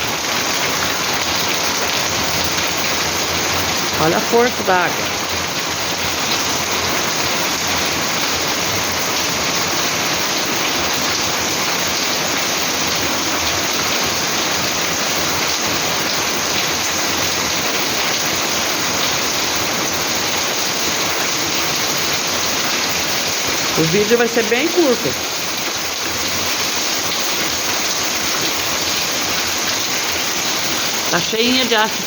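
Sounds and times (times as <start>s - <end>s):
heavy rain: 0.0s - 32.0s
running water: 0.0s - 32.0s.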